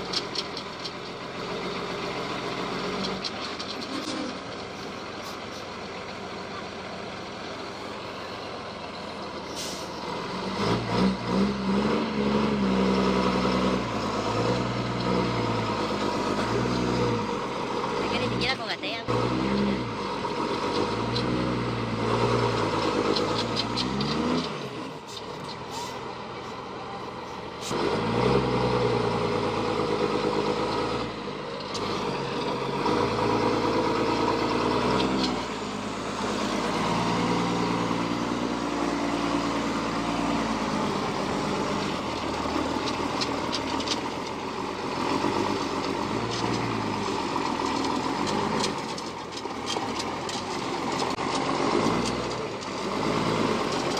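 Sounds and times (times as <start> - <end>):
truck diesel engine revving: 0.0 - 53.9.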